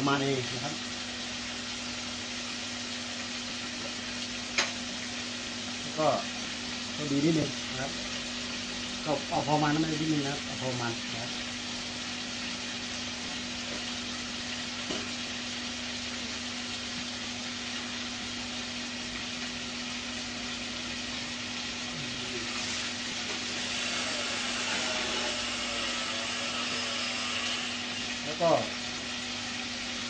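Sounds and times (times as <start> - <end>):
fish sizzling in a wok: 0.0 - 30.0.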